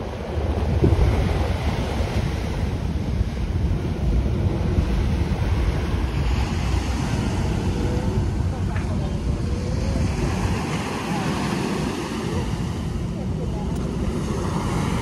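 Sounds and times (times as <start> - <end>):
surf waves breaking on sand: 0.0 - 15.0
wind buffeting the microphone: 0.0 - 15.0.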